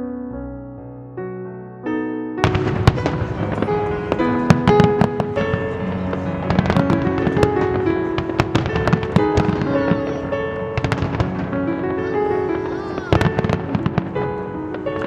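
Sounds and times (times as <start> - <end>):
music with long held notes: 0.0 - 15.0
fireworks bangs: 2.4 - 15.0.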